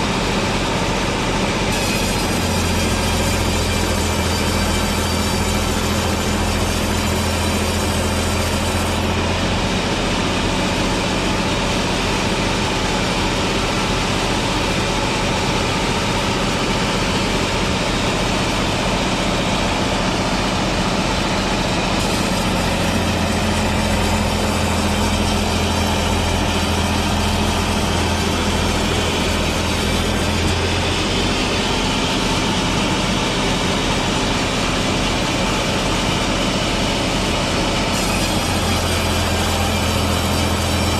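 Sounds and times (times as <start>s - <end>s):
deep engine-like hum: 0.0s - 40.9s.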